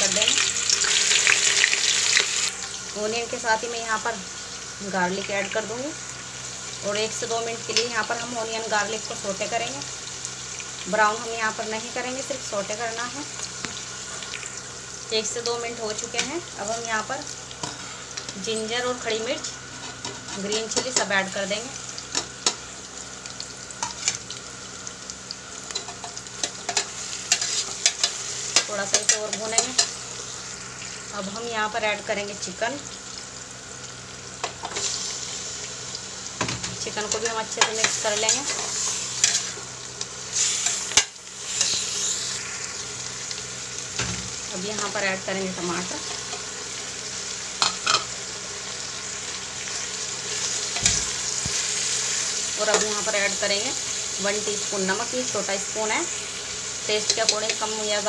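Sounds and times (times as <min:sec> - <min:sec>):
vegetables sizzling in hot oil: 0:00.0 - 0:58.0.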